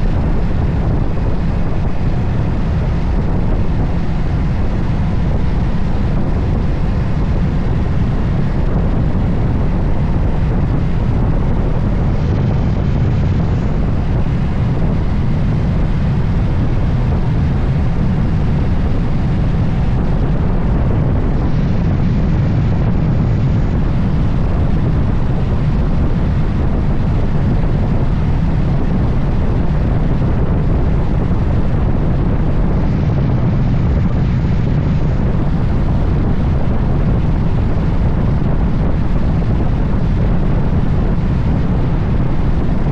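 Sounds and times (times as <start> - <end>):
road noise: 0.0 - 42.9
wind rush over microphone: 0.0 - 42.9.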